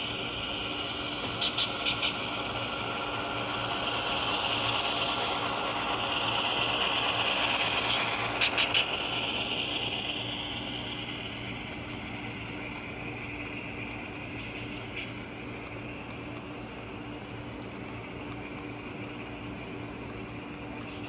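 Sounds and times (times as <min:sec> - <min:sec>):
model train wheels rattling on track: 0:00.4 - 0:21.0.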